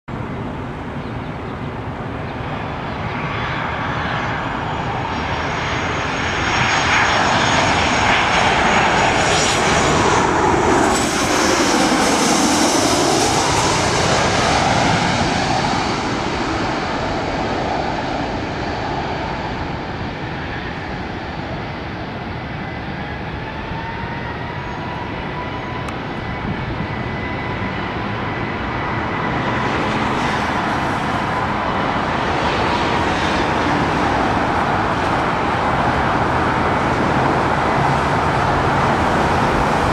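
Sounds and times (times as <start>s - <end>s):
jet engine roar with high whine: 0.1s - 39.9s
jet passing whoosh: 3.2s - 22.5s, 26.3s - 39.9s.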